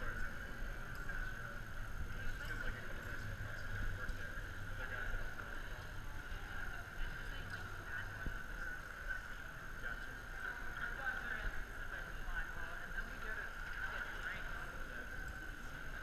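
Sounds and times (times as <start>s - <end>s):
indoor hall background hum: 0.0s - 16.0s.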